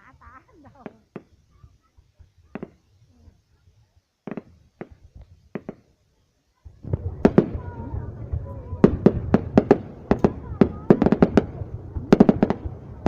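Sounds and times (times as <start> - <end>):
fireworks cracking: 0.0 - 13.0.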